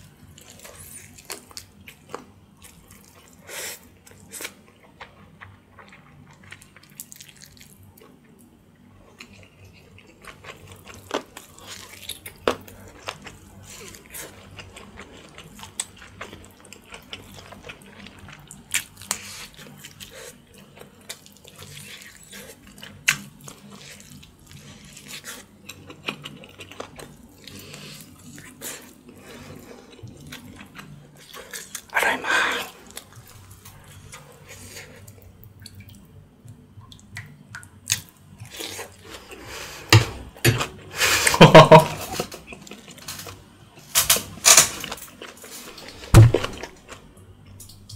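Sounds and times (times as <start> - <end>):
man chewing and gnawing meat: 9.1 - 47.9.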